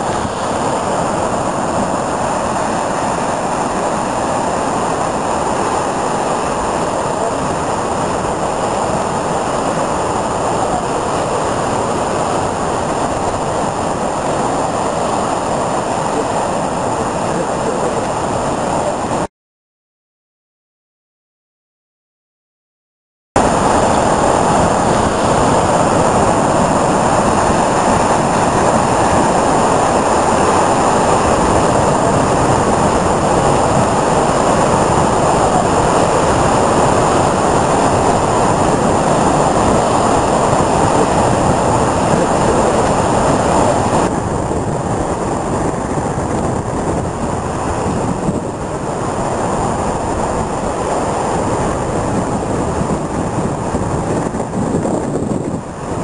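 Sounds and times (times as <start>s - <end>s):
waves breaking on breakwater: 0.0s - 19.3s, 23.4s - 56.0s
wind on microphone: 0.0s - 19.3s, 23.4s - 56.0s.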